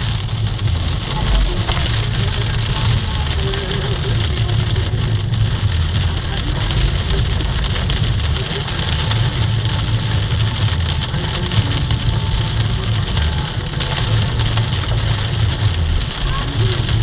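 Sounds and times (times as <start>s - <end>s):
car engine and tyre rumble: 0.0s - 17.0s
tyres hissing on wet road: 0.0s - 17.0s.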